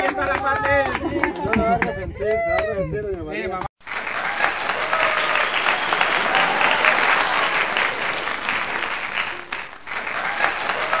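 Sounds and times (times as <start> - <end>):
people applauding: 0.0 - 2.7, 3.8 - 11.0.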